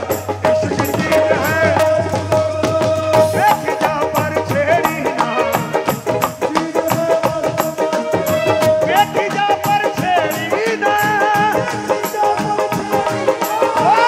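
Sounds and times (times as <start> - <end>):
dholak drumming: 0.0 - 14.0
man singing ornamented phrases: 0.0 - 14.0.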